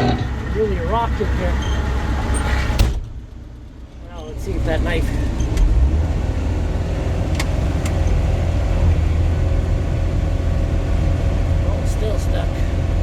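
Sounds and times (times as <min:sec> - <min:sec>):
swather low drone: 0:00.0 - 0:13.0.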